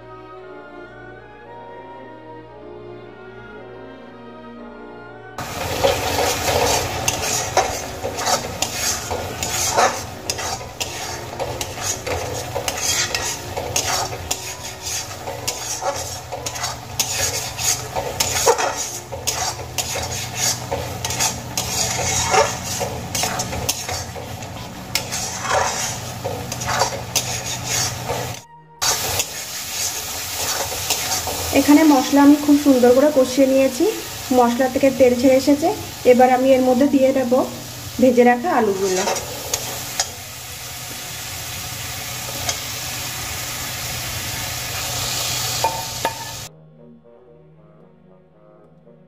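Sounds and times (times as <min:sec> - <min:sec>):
metal spatula scraping metal pan: 0:05.4 - 0:40.7, 0:41.4 - 0:46.5
paste sizzling in oil: 0:05.4 - 0:46.5.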